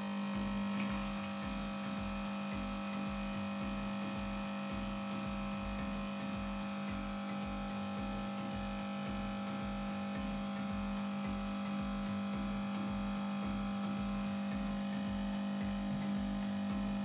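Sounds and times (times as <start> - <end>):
espresso machine pump humming: 0.0 - 17.0.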